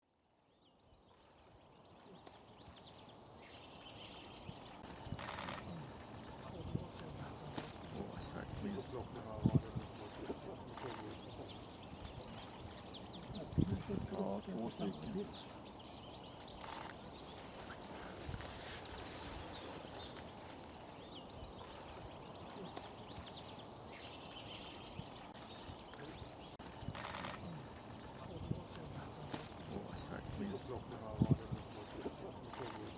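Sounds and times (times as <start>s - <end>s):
faint outdoor background noise: 0.0s - 32.9s
small birds chirping: 0.1s - 32.9s.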